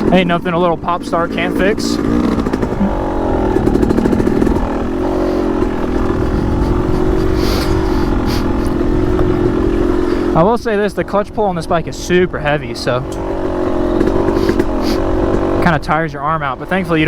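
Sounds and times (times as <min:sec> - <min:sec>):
motorcycle engine starting and running: 0:00.0 - 0:17.0.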